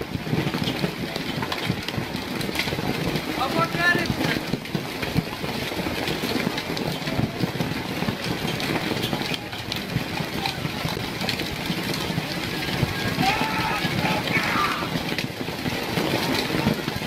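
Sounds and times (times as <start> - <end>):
hailstones clattering: 0.0 - 17.0.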